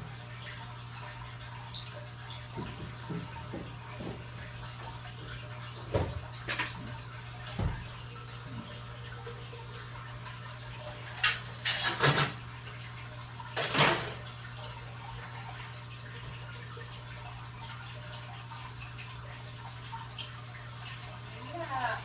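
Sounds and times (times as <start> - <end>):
aquarium filter water running: 0.0 - 22.0.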